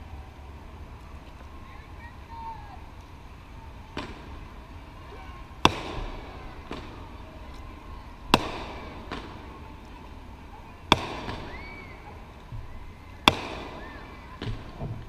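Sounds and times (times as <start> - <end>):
fireworks exploding with echo: 2.7 - 15.0.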